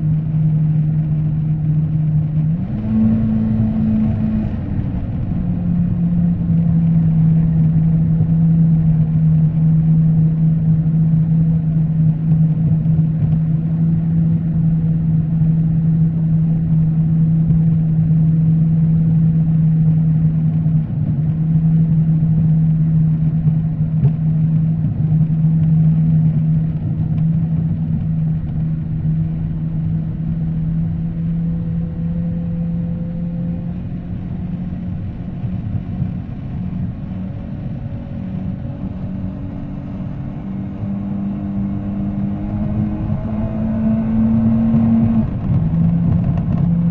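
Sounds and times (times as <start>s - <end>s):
jet ski engine drone: 0.0s - 46.9s.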